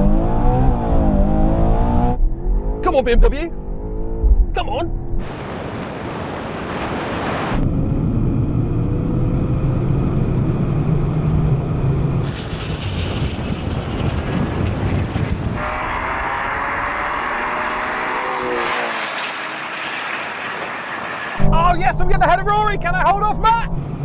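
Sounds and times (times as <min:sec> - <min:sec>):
road noise: 0:00.0 - 0:24.0
wind rush: 0:04.2 - 0:24.0.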